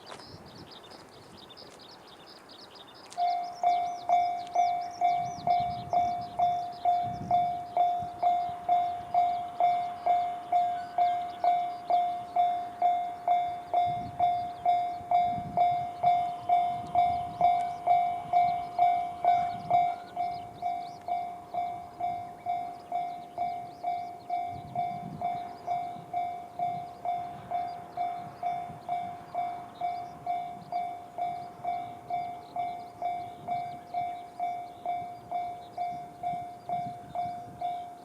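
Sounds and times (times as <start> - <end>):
level crossing bell ringing: 3.2 - 38.0.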